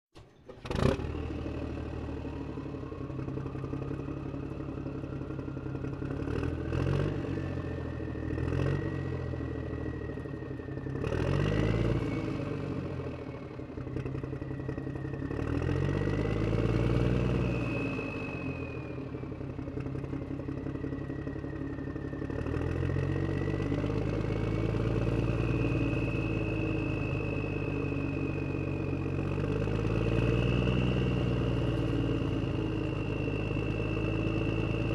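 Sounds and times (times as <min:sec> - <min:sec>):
excavator motors whining: 0:00.1 - 0:34.9
engine drone: 0:00.2 - 0:34.9.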